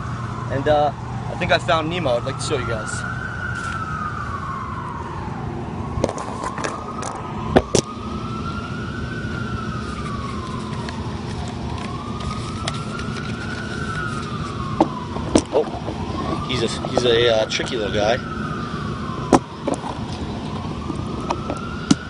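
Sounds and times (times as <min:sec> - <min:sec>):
emergency vehicle siren wailing: 0:00.0 - 0:22.0
low rumble of city traffic: 0:00.0 - 0:22.0.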